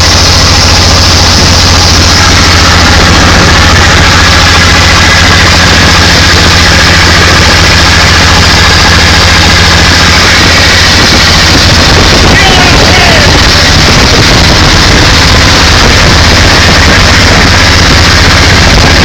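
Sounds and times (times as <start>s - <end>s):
engine idling loudly: 0.0s - 19.0s.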